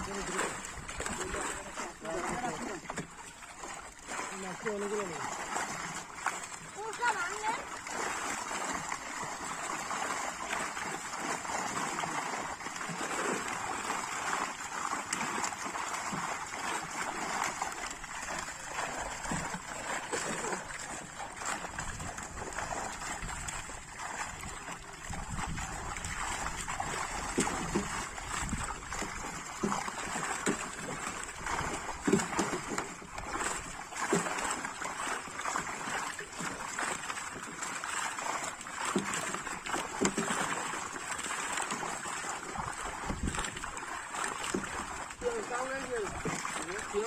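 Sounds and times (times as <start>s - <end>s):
fish thrashing and splashing: 0.0s - 47.0s.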